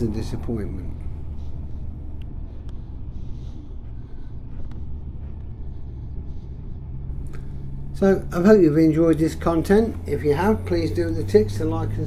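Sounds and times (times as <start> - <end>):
road and wind noise hiss: 0.0 - 12.0.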